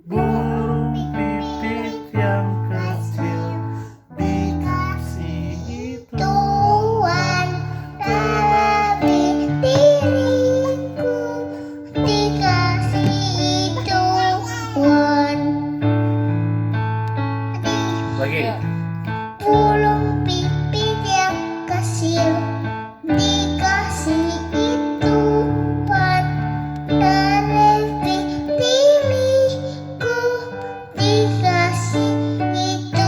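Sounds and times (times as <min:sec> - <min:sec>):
child singing: 0:00.0 - 0:15.9, 0:17.6 - 0:18.5, 0:19.2 - 0:33.0.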